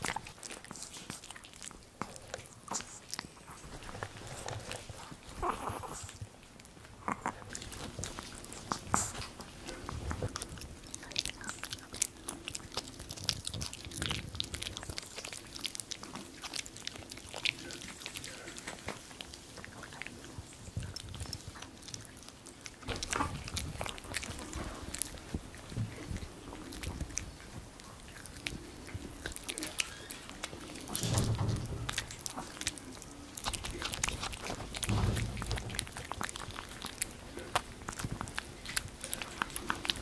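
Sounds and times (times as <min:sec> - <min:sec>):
dog gnawing hard chew: 0:00.0 - 0:40.0.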